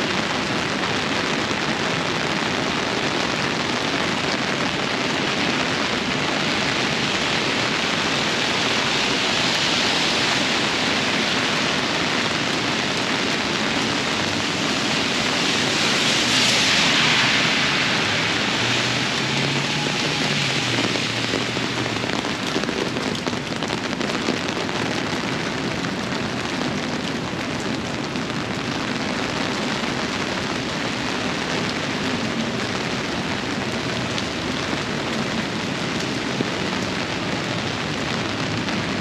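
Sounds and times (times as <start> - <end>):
heavy rain hissing: 0.0 - 39.0.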